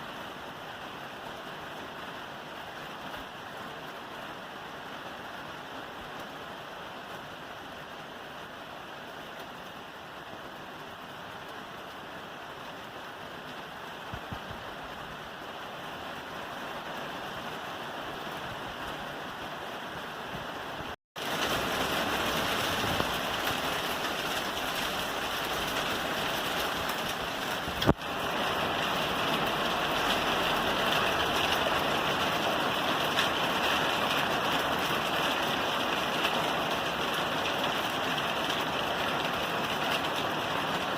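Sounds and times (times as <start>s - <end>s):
rain on a roof: 0.0s - 40.9s.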